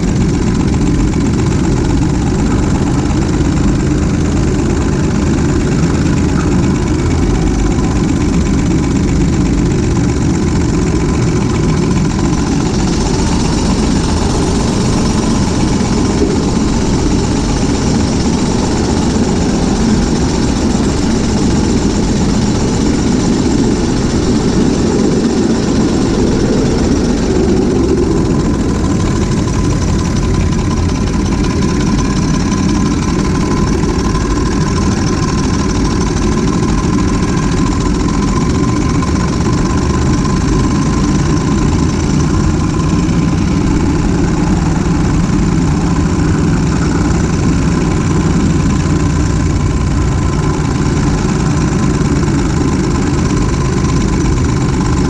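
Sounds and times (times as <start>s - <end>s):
faint steady whine: 0.0s - 55.0s
rumble of wheels on rails: 0.0s - 55.0s.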